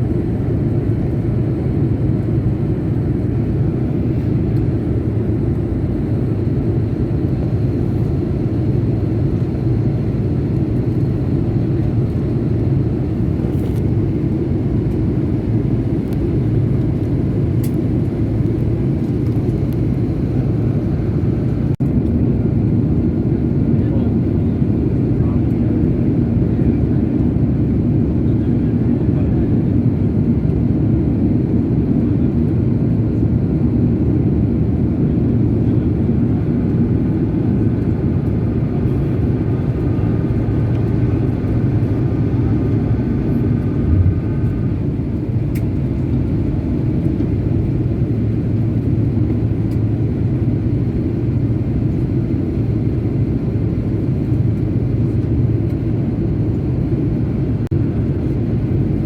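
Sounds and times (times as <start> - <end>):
airplane engines roaring: 0.0 - 59.0.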